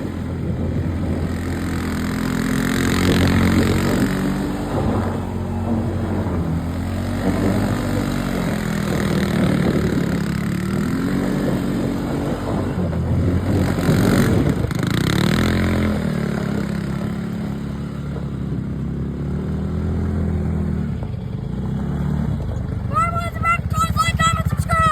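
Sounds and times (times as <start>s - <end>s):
quad engine revving: 0.0s - 24.9s.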